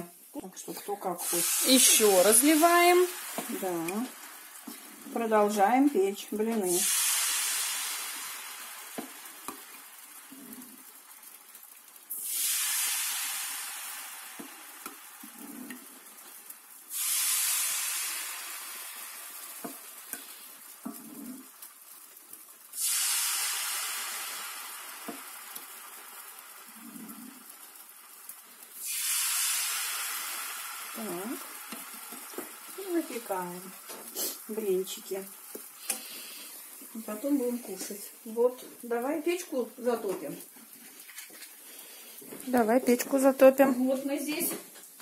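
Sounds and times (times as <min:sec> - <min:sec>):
batter sizzling in hot pan: 0:00.0 - 0:45.0.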